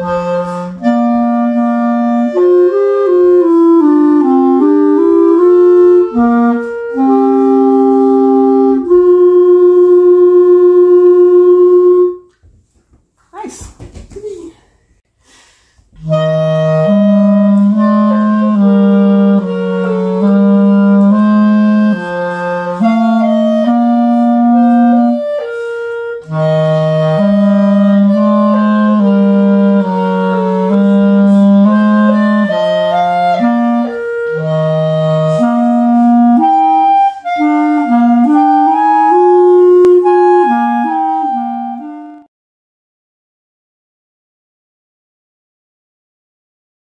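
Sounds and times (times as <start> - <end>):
clarinet duet: 0.0 - 12.4, 16.0 - 42.3.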